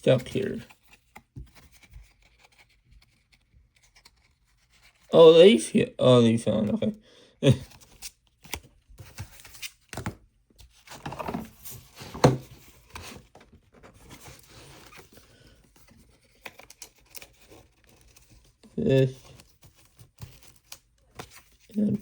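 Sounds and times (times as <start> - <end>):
cards and wrappers rustling: 0.0 - 5.2, 7.5 - 22.0.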